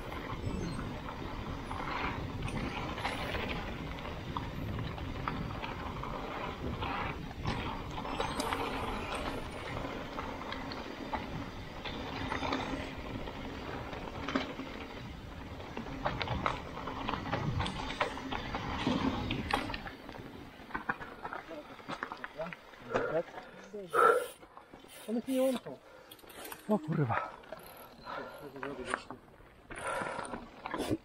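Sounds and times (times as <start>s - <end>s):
mountain bike rattling on rocky trail: 0.0s - 31.0s.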